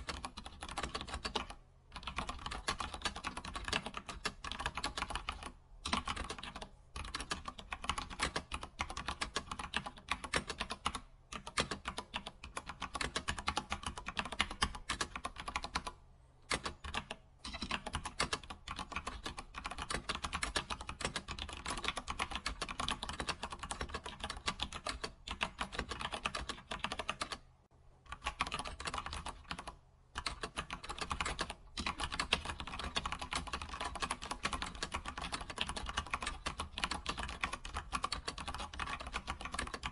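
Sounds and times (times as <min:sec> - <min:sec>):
computer keyboard typing: 0:00.0 - 0:27.5, 0:28.1 - 0:39.9.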